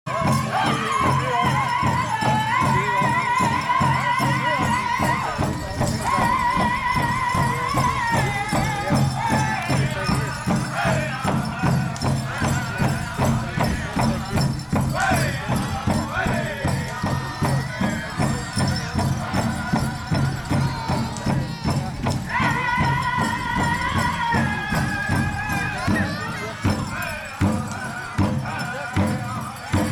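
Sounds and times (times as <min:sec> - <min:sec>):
group singing in high voices: 0:00.1 - 0:29.9
large drum beating: 0:00.2 - 0:29.9.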